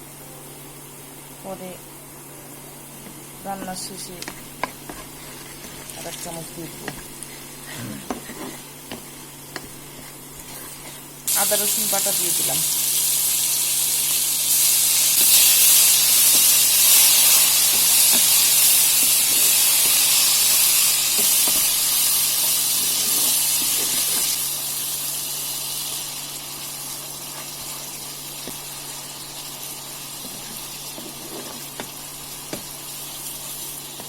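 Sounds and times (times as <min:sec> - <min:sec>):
spices sizzling in hot oil: 0:02.6 - 0:34.0.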